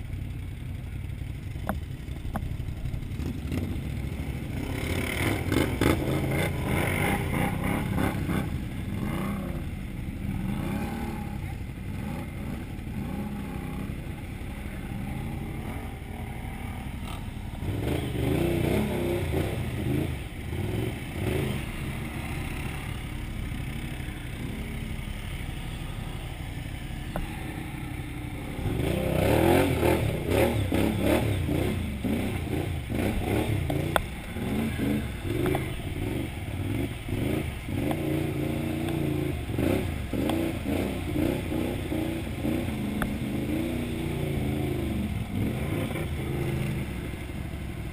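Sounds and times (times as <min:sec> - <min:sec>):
atv engine revving: 0:00.0 - 0:47.9
knocks and clatter over ruts: 0:00.0 - 0:47.9.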